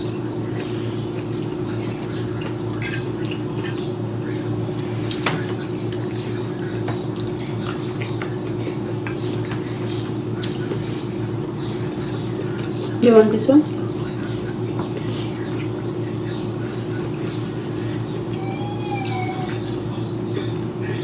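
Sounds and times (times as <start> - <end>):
steady low hum: 0.0 - 21.0
wet chewing mouth sounds: 0.4 - 13.0, 13.6 - 19.7.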